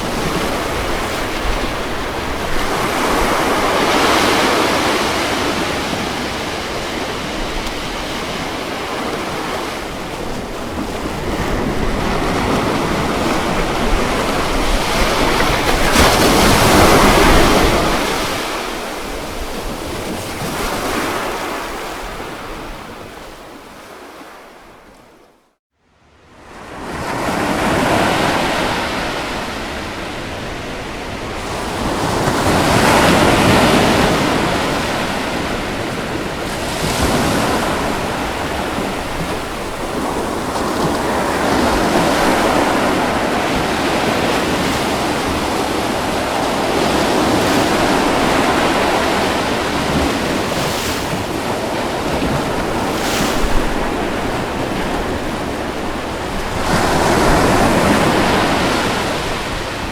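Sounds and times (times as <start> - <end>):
ocean waves breaking on beach: 0.0 - 25.4, 26.2 - 59.9.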